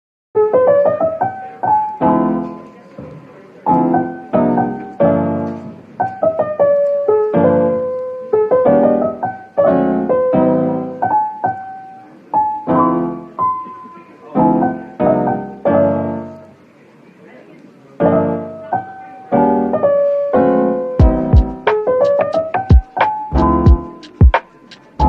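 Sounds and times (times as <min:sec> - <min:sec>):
soft piano melody: 0:00.4 - 0:25.0.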